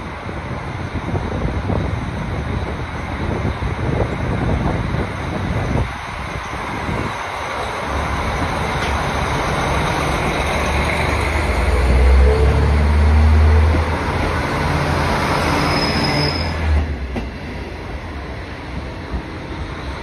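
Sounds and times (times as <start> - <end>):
rumble of train wheels: 0.0 - 20.0.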